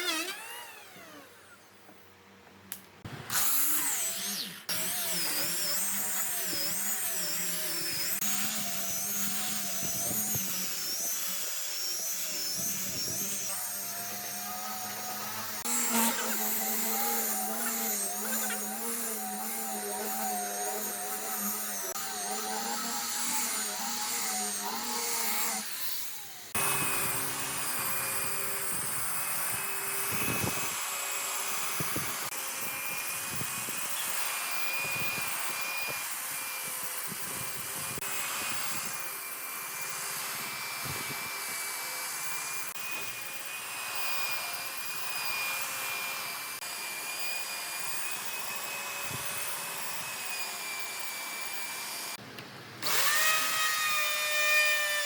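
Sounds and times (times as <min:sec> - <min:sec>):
power tool wavering pitch: 0:00.0 - 0:01.7, 0:03.3 - 0:52.2, 0:52.8 - 0:55.0.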